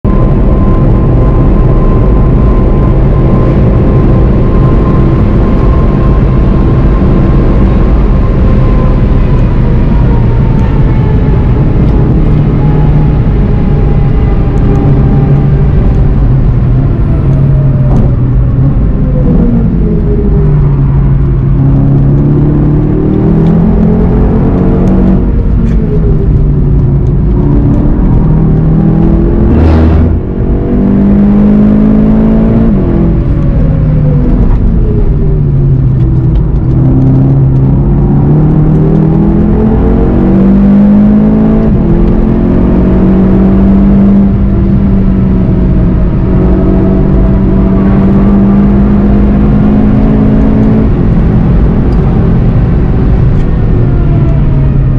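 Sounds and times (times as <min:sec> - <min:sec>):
car engine accelerating: 0:00.0 - 0:54.9
wind and tyre noise: 0:00.0 - 0:54.9.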